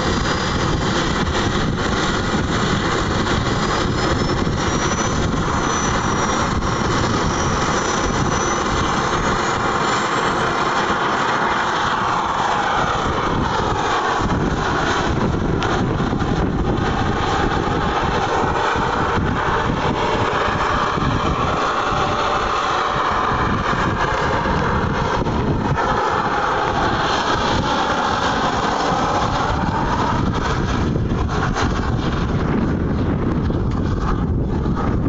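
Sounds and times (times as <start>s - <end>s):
model helicopter motor whine: 0.0s - 35.0s.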